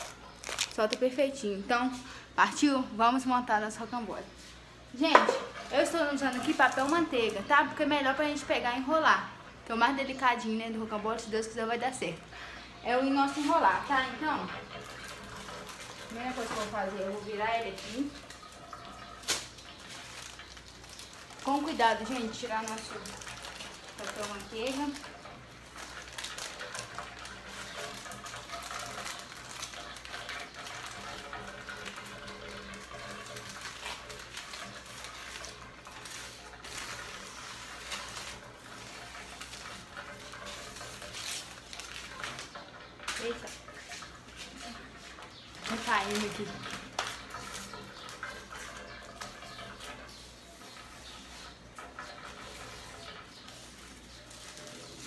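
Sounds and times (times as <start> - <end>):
baking paper rustling and crackling: 0.0 - 55.0.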